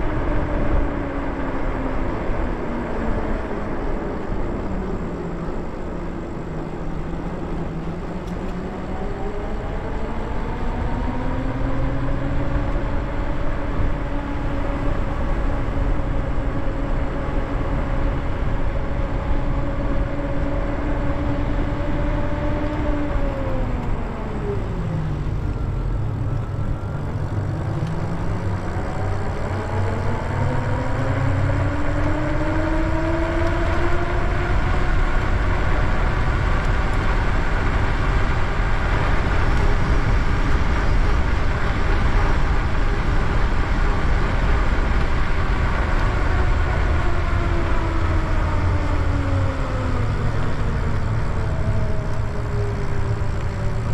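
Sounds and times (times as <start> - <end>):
wind and road rush: 0.0 - 53.9.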